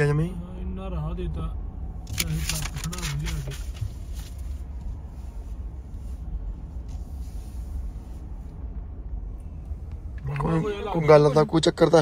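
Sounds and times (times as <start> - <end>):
vehicle cabin rumble: 1.0 - 12.0.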